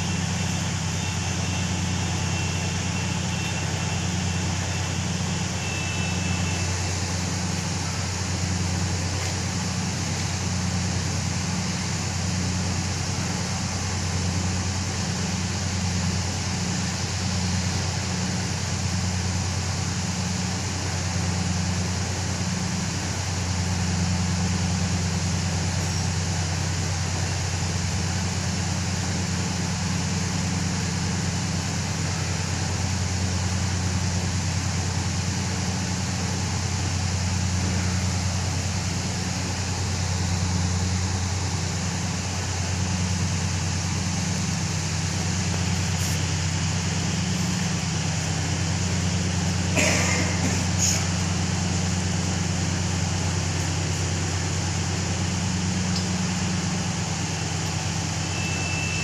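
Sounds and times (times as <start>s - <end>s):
heavy machinery droning: 0.0s - 59.0s.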